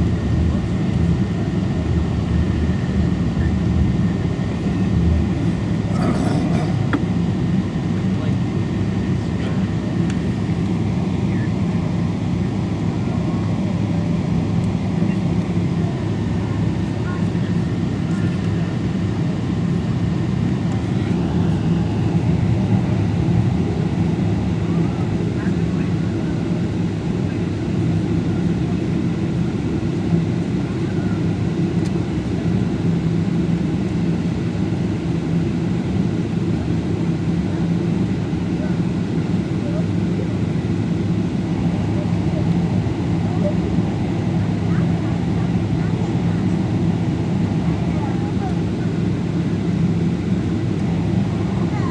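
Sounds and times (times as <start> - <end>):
jet engine rumble in cabin: 0.0 - 51.9.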